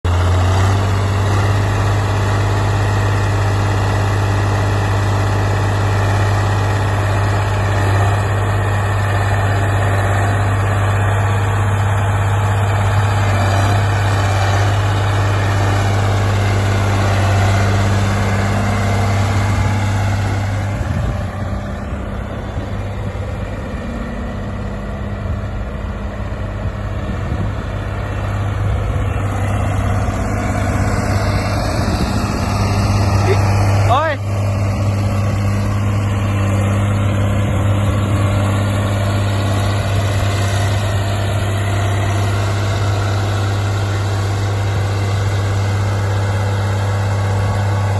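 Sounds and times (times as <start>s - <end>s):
road roller engine humming: 0.0s - 47.9s.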